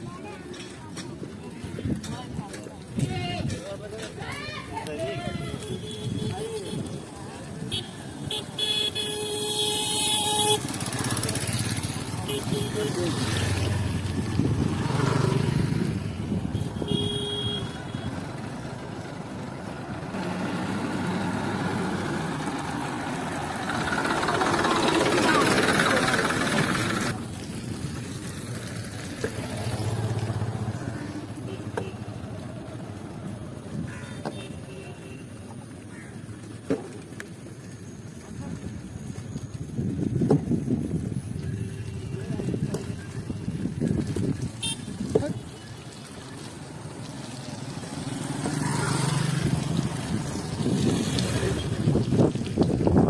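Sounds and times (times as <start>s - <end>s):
vehicle engine humming: 3.6s - 53.0s.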